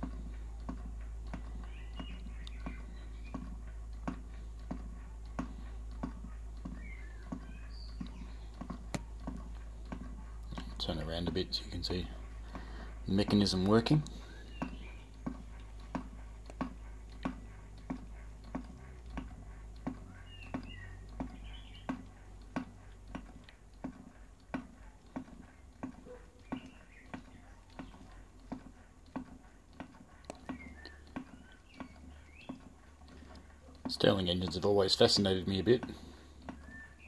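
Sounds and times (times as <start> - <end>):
stirling engine clicking: 0.0 - 37.0.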